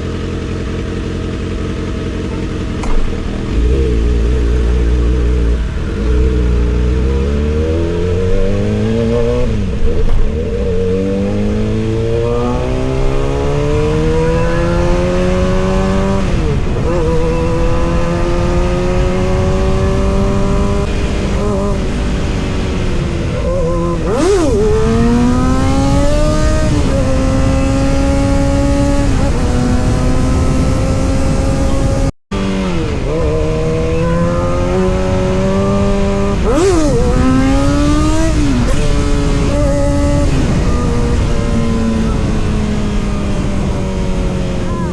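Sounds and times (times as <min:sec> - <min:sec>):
motorcycle engine revving through gears: 0:00.0 - 0:44.9.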